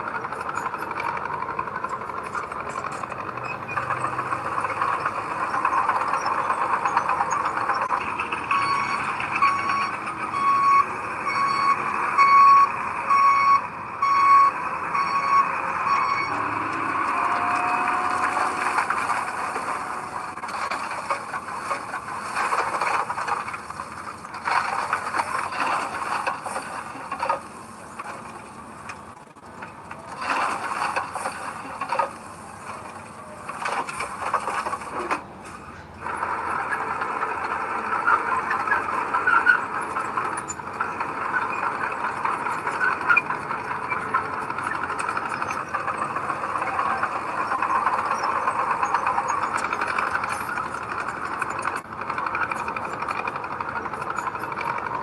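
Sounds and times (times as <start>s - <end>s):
noisy metallic din: 0.0s - 13.2s, 14.6s - 28.3s, 30.0s - 55.0s
diesel machine running: 0.0s - 55.0s.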